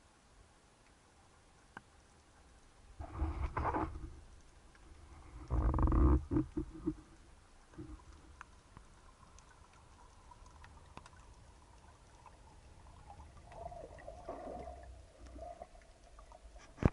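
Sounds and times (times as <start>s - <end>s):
low rumble of moving water: 0.0s - 16.9s
underwater clicks and crackles: 0.8s - 16.9s.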